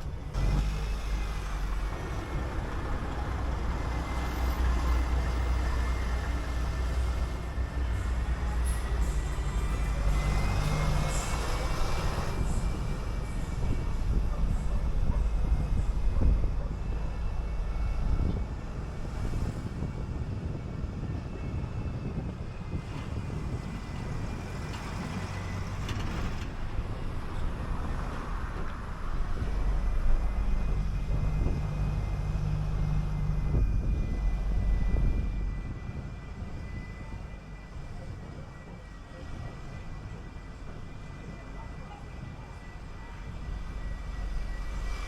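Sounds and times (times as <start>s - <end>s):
bus engine hum: 0.0s - 45.0s
low road rumble: 0.0s - 45.0s.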